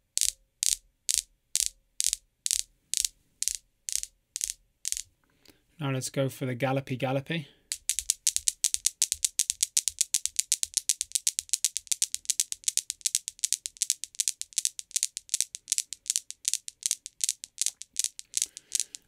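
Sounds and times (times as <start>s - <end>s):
steel balls clacking: 0.1s - 5.1s, 7.7s - 19.0s.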